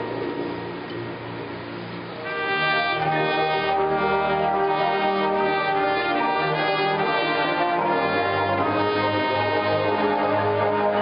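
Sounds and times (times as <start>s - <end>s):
brass band playing chords: 0.0s - 11.0s.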